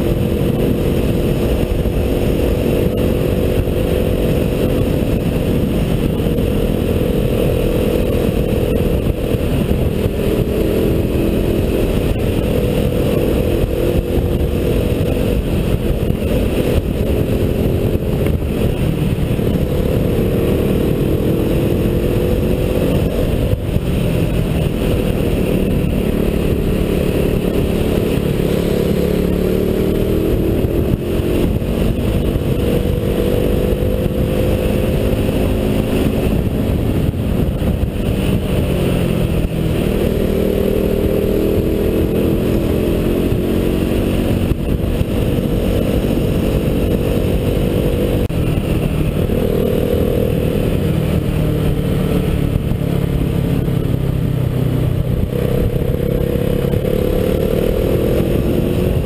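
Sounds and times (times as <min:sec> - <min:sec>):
motorcycle engine running: 0:00.0 - 0:59.0
wind noise rushing: 0:00.0 - 0:59.0.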